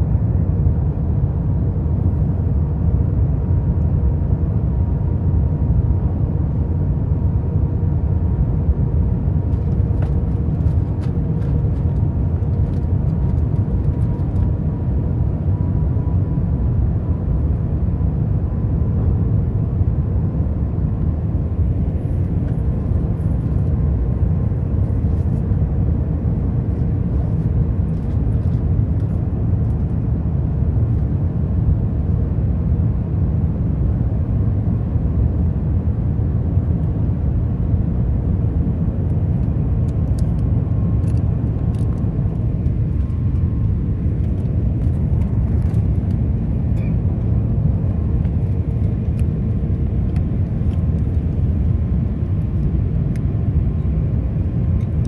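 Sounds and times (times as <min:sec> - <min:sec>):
faint steady hum: 0:00.0 - 0:55.0
jet engine cabin rumble: 0:00.0 - 0:55.0.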